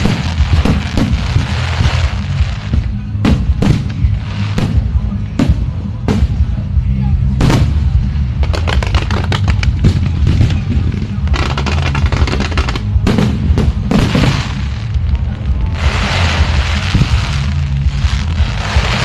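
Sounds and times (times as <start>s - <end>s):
fireworks crackling hiss: 0.0s - 6.7s, 7.4s - 19.0s
fireworks cracking and banging: 0.0s - 19.0s.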